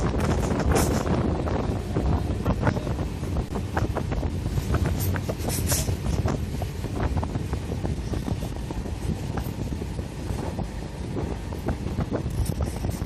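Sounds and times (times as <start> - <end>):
low rumble: 0.0 - 13.0
train wheels clattering on rails: 0.0 - 13.0
wind buffeting microphone: 0.0 - 13.0.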